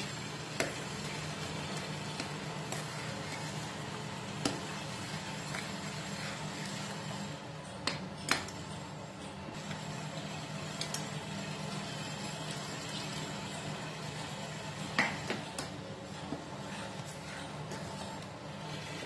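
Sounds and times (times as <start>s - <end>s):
ladle stirring thick gravy: 0.0s - 7.9s, 9.7s - 19.0s.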